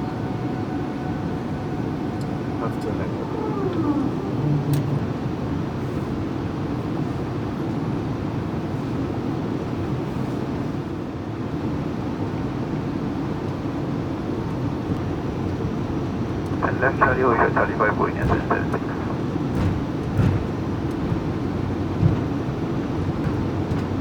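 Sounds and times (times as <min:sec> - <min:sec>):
airliner cockpit low rumble: 0:00.0 - 0:24.0.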